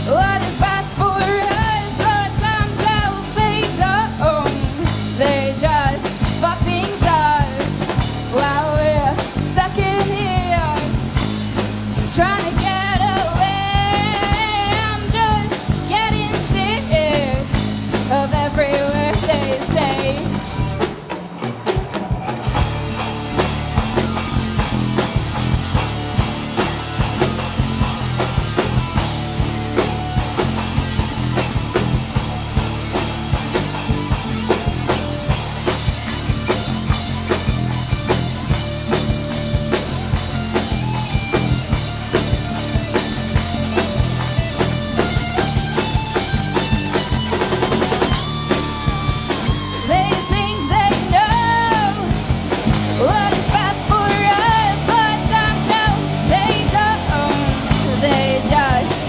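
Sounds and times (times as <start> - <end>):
bass guitar: 0.0 - 59.0
drum kit beat: 0.0 - 59.0
electric guitars: 0.0 - 59.0.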